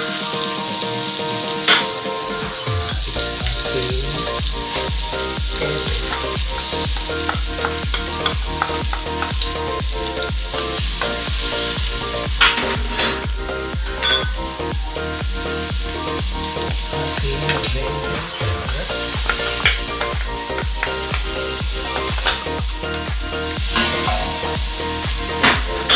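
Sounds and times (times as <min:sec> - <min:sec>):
background music with beat: 0:00.0 - 0:25.9
garlic sizzling in butter: 0:00.0 - 0:25.9.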